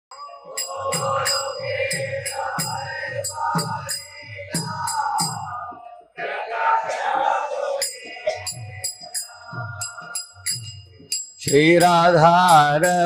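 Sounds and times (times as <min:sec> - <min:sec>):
hand cymbals ringing: 0:00.1 - 0:05.5, 0:07.8 - 0:13.0.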